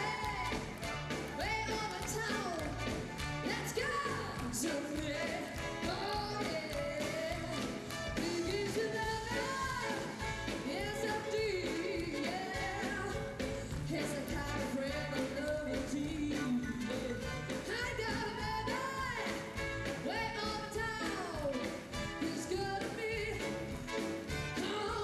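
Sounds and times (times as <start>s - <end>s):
blues band playing: 0.0s - 25.0s
woman singing blues: 0.0s - 25.0s.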